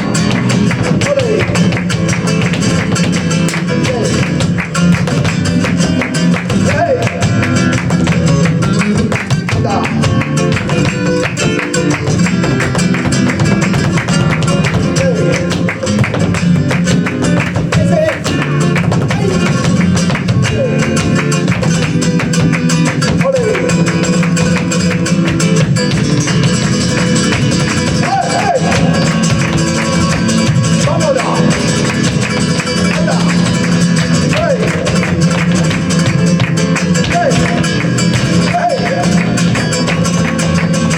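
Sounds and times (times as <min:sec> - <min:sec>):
flamenco guitar playing: 0:00.0 - 0:40.9.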